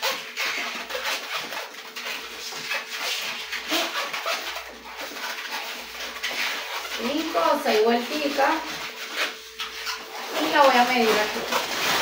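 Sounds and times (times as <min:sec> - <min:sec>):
balloon squeaking and rubbing: 0:00.0 - 0:12.0.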